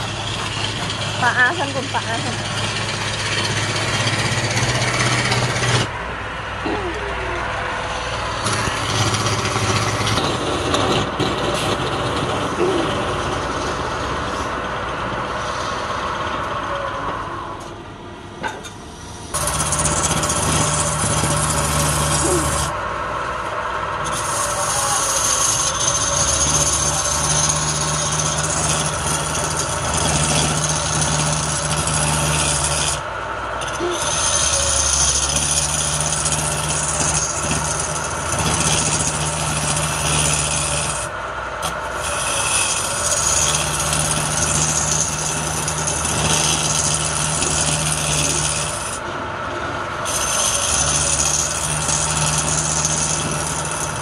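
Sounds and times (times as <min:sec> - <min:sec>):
chisel scraping wood on lathe: 0:00.0 - 0:06.0, 0:07.4 - 0:16.4, 0:19.0 - 0:49.1, 0:50.0 - 0:54.0
lathe running hum: 0:00.0 - 0:54.0.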